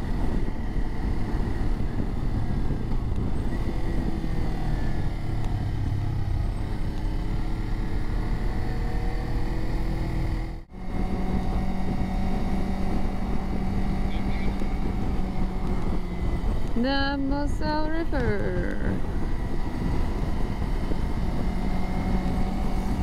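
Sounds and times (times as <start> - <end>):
motorcycle engine revving: 0.0 - 23.0
riding wind noise: 0.0 - 23.0.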